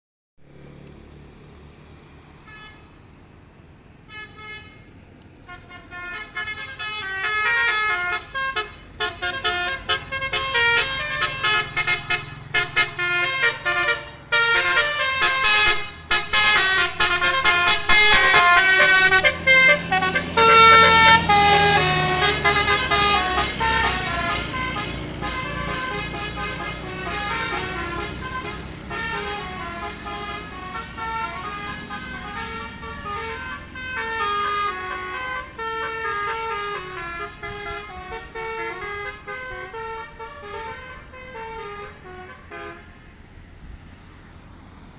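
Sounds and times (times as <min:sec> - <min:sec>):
bus air horn melody: 0:02.4 - 0:03.0, 0:04.1 - 0:43.1.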